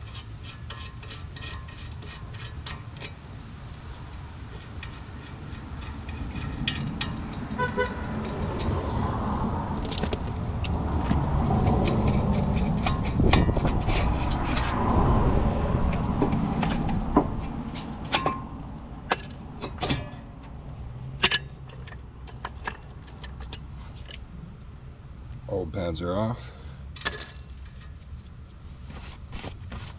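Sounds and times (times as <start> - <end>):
passing vehicle rumble: 3.2 - 28.8.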